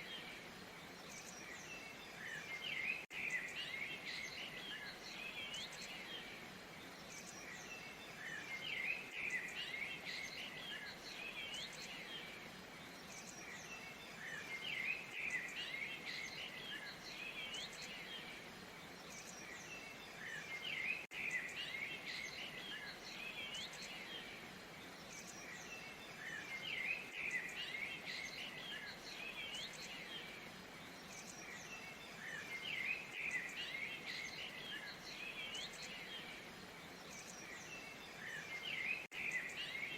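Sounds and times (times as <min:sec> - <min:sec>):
faint rush of falling water: 0:00.0 - 0:39.9
songbirds chirping and twittering: 0:00.0 - 0:39.9.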